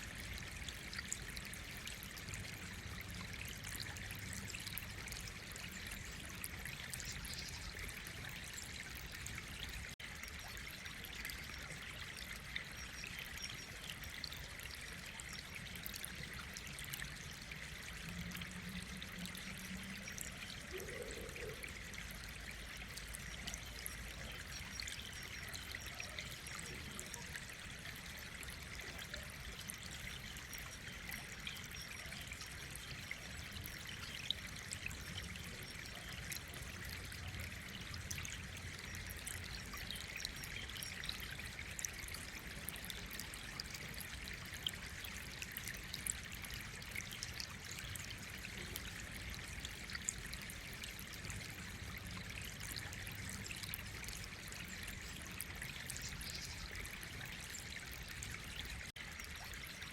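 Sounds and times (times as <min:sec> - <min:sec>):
trickling water: 0:00.0 - 0:59.9.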